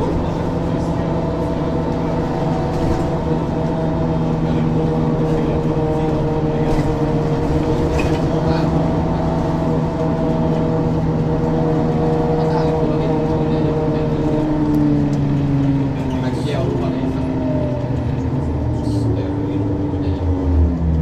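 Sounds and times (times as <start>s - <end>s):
diesel bus engine running: 0.0s - 21.0s.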